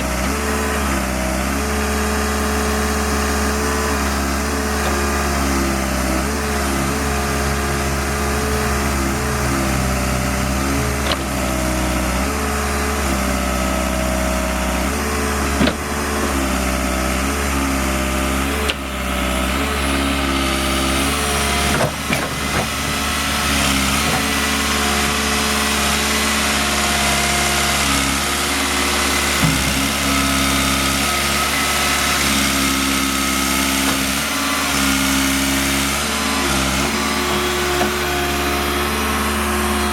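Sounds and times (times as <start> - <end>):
backhoe diesel engine revving: 0.0 - 39.9.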